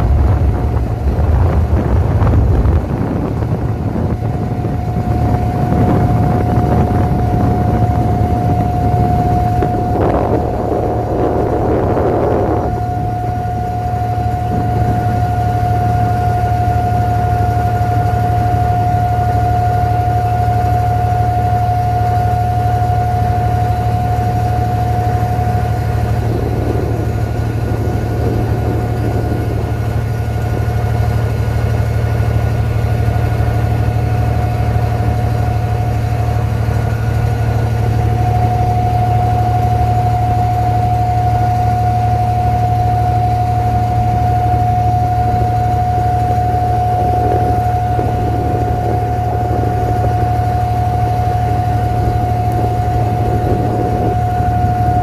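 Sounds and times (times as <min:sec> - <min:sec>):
boat diesel engine drone: 0:00.0 - 0:55.0
high engine whine: 0:00.0 - 0:55.0.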